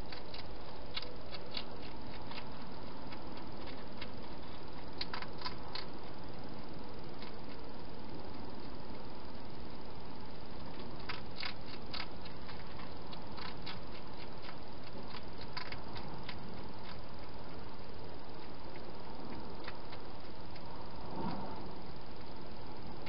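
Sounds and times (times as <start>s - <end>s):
hedgehog crunching dry food: 0.0s - 20.8s
steady hiss: 0.0s - 23.0s.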